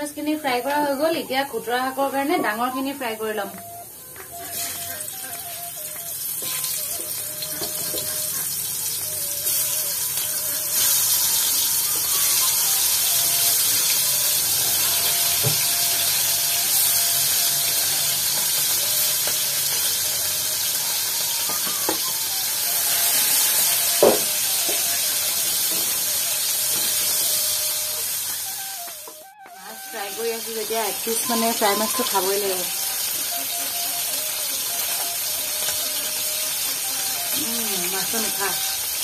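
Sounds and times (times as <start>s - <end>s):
fish sizzling in hot oil: 0.1s - 39.0s.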